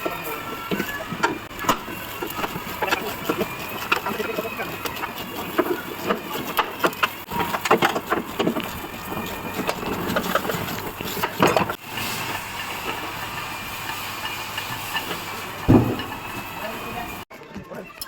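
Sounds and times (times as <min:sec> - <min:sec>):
knocks and clatter: 0:00.0 - 0:16.6
steady machine hum: 0:00.0 - 0:17.2.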